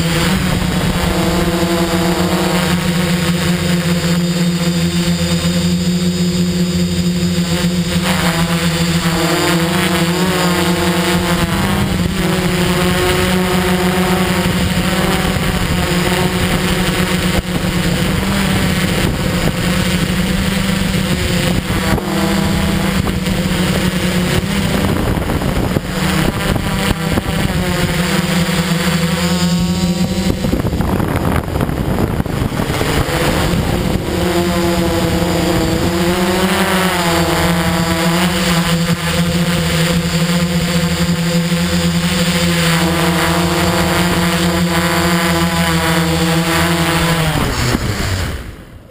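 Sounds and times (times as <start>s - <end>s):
drone propellers whining: 0.0s - 48.9s.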